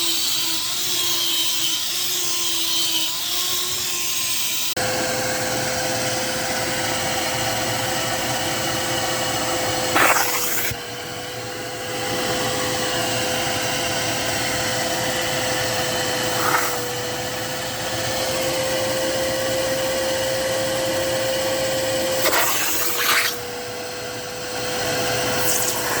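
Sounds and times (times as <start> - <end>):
vacuum cleaner motor whine: 4.8 - 26.0.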